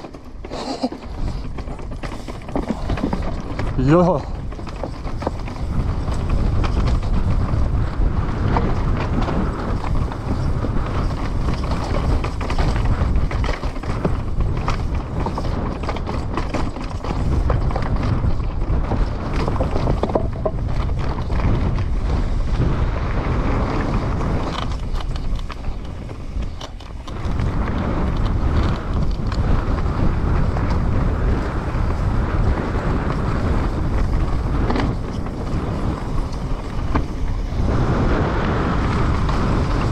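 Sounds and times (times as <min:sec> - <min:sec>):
bike clattering over bumps: 0:00.0 - 0:39.9
tyres rolling on dirt: 0:00.0 - 0:39.9
wind rushing over microphone: 0:00.0 - 0:39.9.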